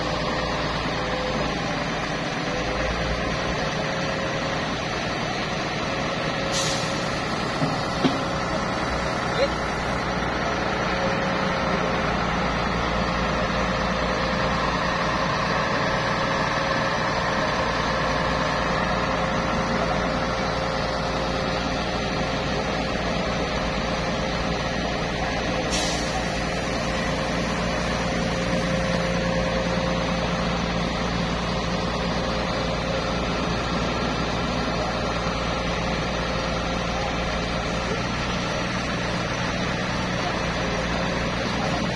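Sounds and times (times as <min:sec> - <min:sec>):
diesel engine drone with whine: 0:00.0 - 0:41.9.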